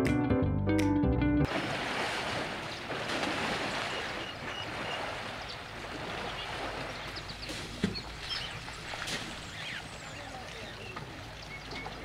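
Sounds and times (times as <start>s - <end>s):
water sloshing and splashing: 1.5s - 12.0s.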